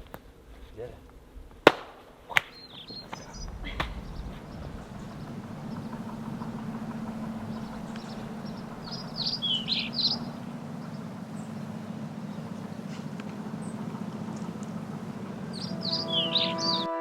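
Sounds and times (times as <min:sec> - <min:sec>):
low hum: 0:00.0 - 0:17.0
bird chirping: 0:02.4 - 0:17.0.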